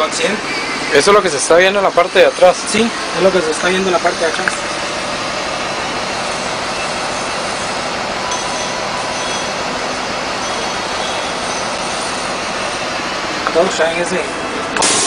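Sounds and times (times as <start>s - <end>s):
air-conditioning blowing: 0.0s - 15.0s
bus engine running: 0.0s - 15.0s.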